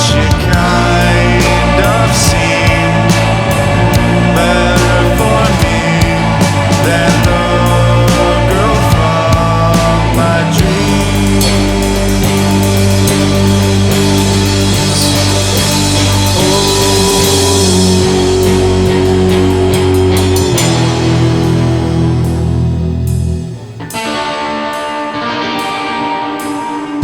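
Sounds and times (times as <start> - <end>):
instrumental rock band: 0.0 - 27.0
plucked guitar: 0.0 - 27.0.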